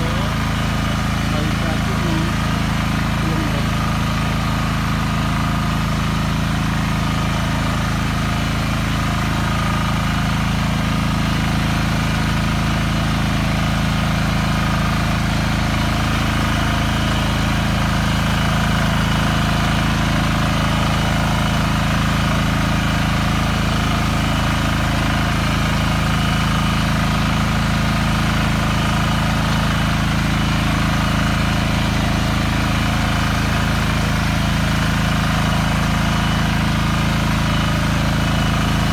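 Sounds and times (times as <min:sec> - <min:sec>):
walking tractor engine running: 0:00.0 - 0:38.9.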